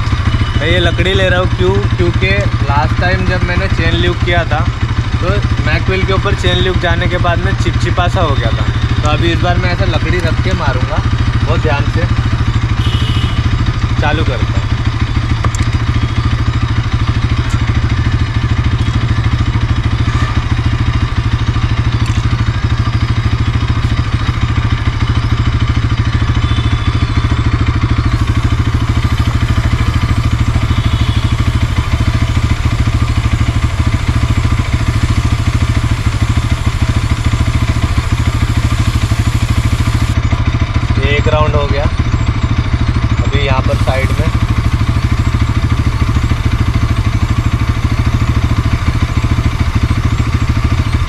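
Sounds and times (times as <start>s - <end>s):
motorcycle engine idling: 0.0s - 51.0s.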